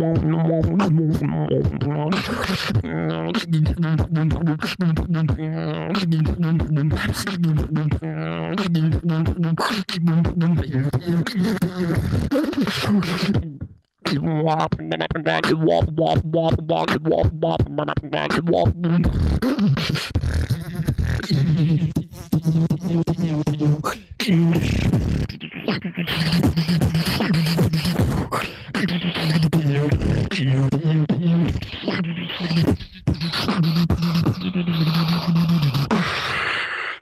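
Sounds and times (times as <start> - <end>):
beatboxing: 0.0 - 37.0.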